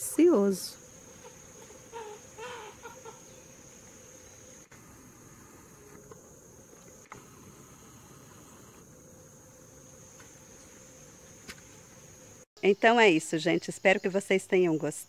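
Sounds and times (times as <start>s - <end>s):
insect trill: 0.0s - 15.0s.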